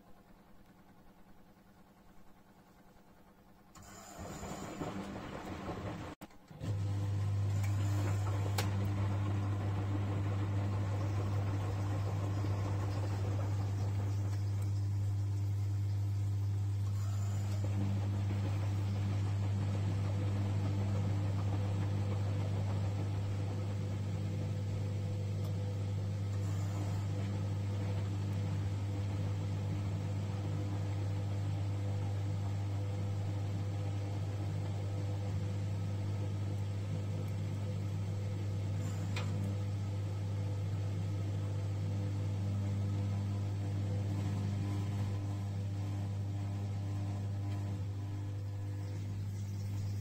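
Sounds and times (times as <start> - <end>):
low mechanical hum: 0.0 - 50.0
washing machine drum turning: 4.2 - 48.8.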